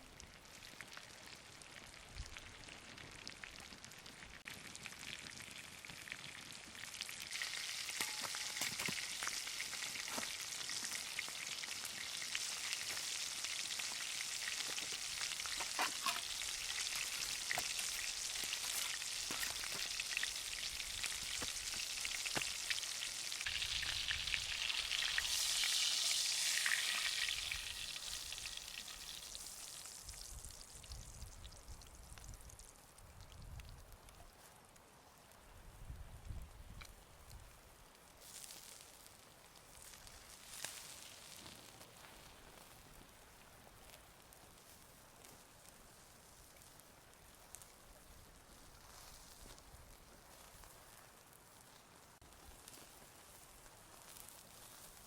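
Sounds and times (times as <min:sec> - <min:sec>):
steak sizzling over campfire: 0:00.0 - 0:55.0.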